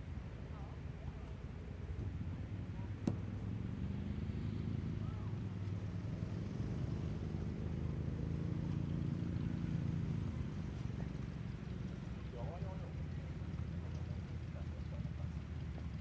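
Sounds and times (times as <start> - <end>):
propeller aircraft engine running: 0.0 - 16.0.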